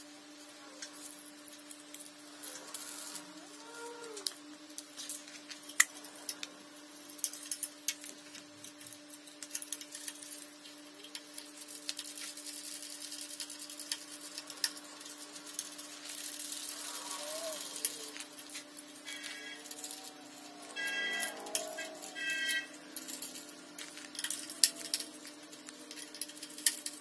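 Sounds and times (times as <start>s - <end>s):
small tools clicking and tapping: 3.9s - 6.5s, 7.1s - 27.0s.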